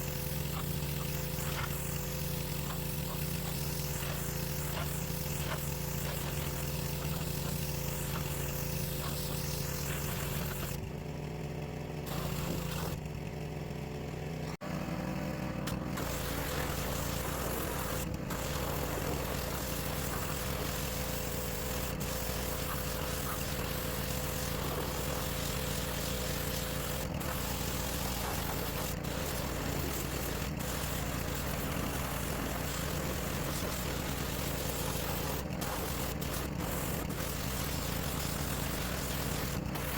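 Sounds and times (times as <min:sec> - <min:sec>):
water spray hissing: 0:00.0 - 0:10.8, 0:16.0 - 0:39.9
pressure washer engine hum: 0:00.0 - 0:39.9.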